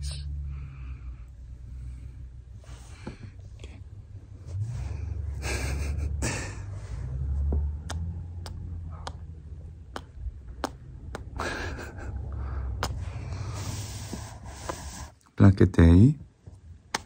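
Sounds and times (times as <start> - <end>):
steady low rumble: 0.0 - 15.1.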